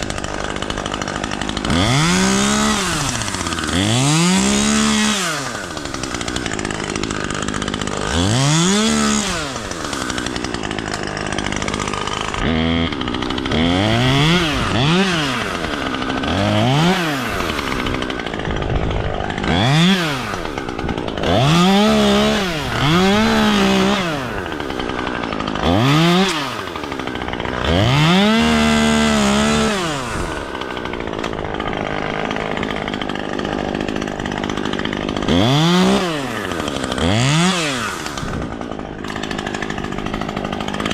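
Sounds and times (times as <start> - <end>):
battery chainsaw motor whine: 0.0 - 40.9.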